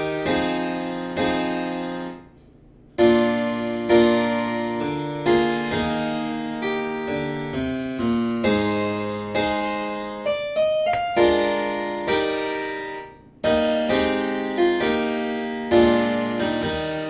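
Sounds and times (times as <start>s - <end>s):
keyboard playing slow chords: 0.0s - 17.0s.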